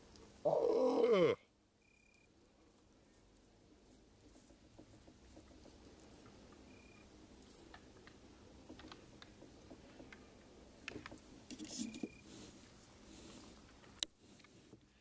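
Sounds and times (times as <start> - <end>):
small clicks and rustles: 2.1 - 6.7, 7.3 - 15.0.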